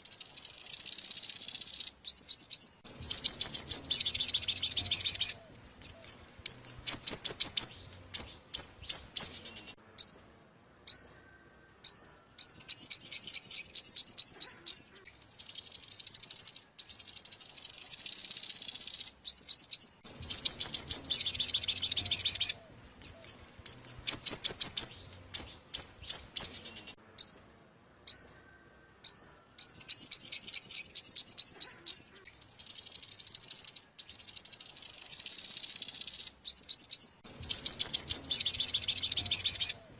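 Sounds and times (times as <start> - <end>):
bird trilling: 0.0 - 10.3, 10.9 - 27.5, 28.1 - 39.9
bird chirps: 0.0 - 39.9.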